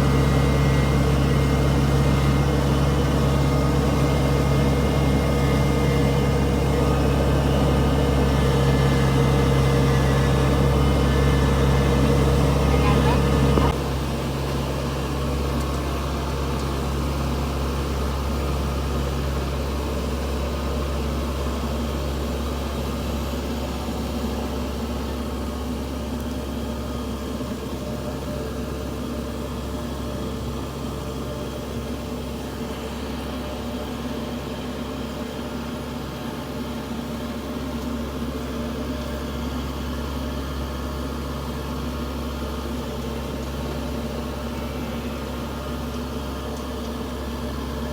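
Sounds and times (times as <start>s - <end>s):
harvester engine drone: 0.0s - 47.9s.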